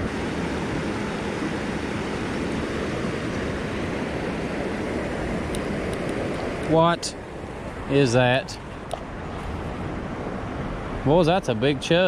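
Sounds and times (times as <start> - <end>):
creek water flowing over rocks: 0.0 - 11.0.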